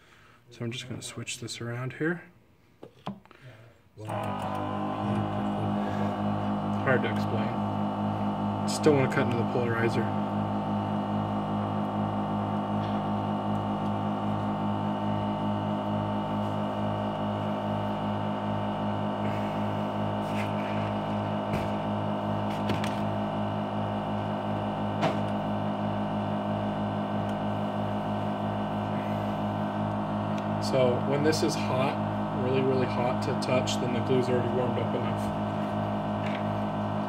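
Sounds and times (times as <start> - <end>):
vacuum pump humming: 2.8 - 37.0.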